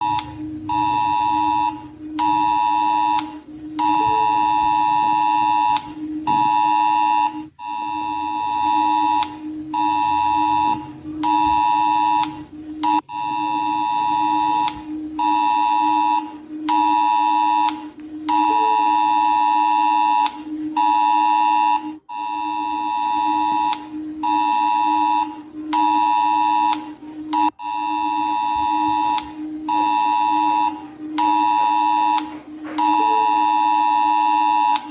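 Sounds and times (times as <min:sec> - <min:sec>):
harsh two-tone alert beep: 0:00.0 - 0:34.9
steady low hum: 0:00.0 - 0:34.9.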